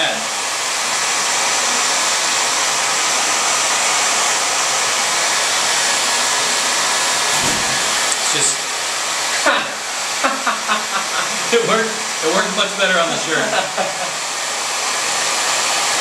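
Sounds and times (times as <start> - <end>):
hair dryer blowing air: 0.0 - 16.0.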